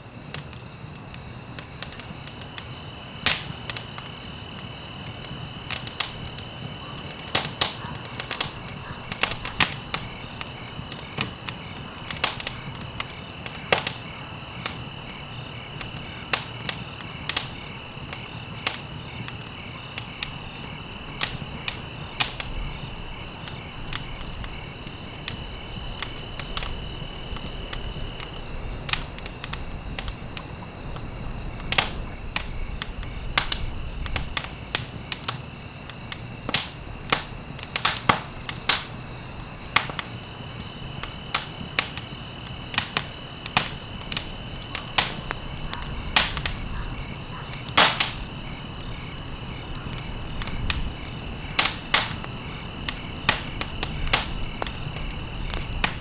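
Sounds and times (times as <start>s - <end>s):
low rumble of flames: 0.0s - 56.0s
wood fire crackling: 0.0s - 56.0s
pops and snaps of fire: 0.2s - 56.0s.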